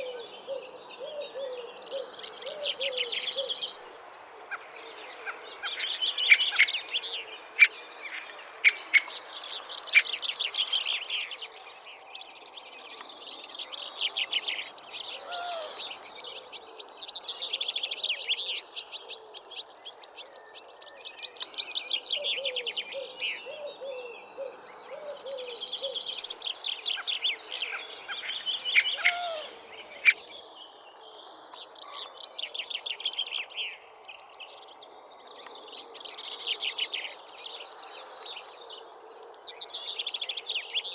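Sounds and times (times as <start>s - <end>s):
faint background noise: 0.0s - 40.9s
songbird singing: 0.0s - 40.9s.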